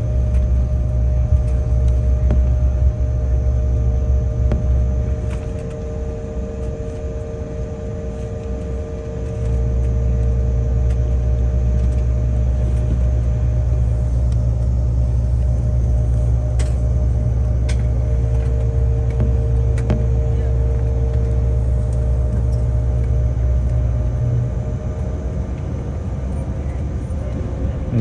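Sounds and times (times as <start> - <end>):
constant tonal hum: 0.0 - 28.0
jet engine rumble in cabin: 0.0 - 28.0.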